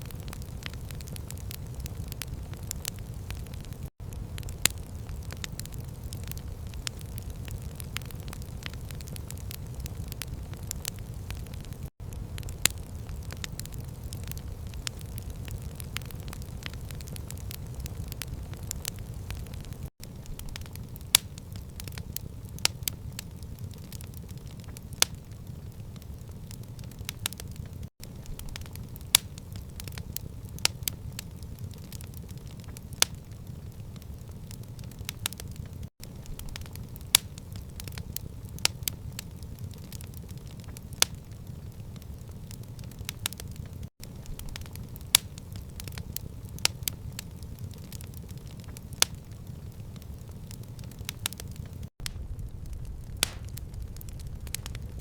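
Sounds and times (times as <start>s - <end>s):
fire flame rumble: 0.0s - 55.0s
fire popping and snapping: 0.0s - 55.0s.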